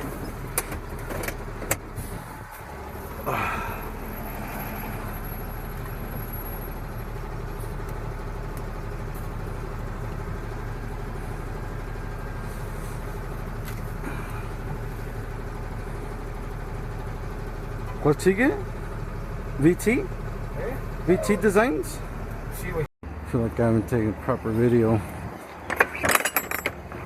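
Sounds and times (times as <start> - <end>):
road noise: 0.0 - 27.0
truck engine humming: 0.0 - 27.0.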